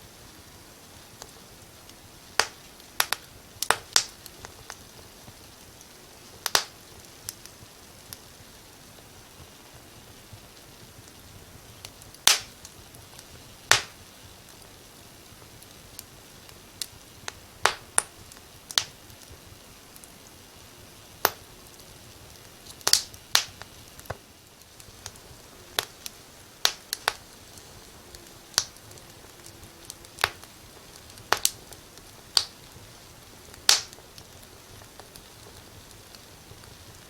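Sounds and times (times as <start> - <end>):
faint steady hiss: 0.0 - 37.0
wood fire crackling: 0.0 - 37.0.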